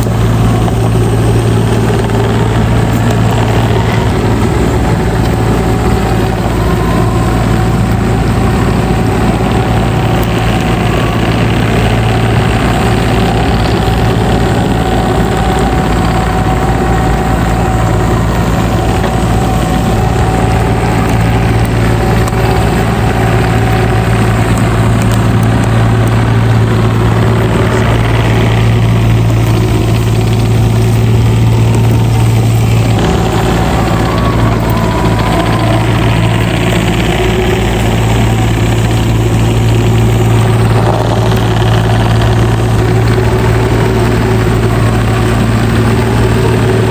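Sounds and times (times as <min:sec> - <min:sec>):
heavy equipment engine idling: 0:00.0 - 0:46.9.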